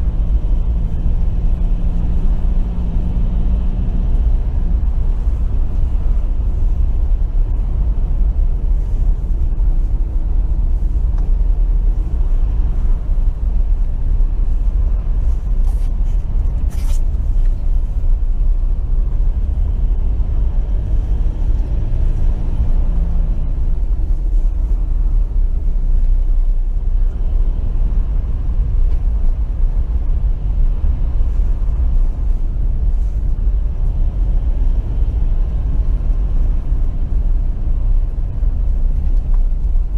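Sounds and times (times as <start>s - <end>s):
truck engine and tyre noise: 0.0s - 39.9s.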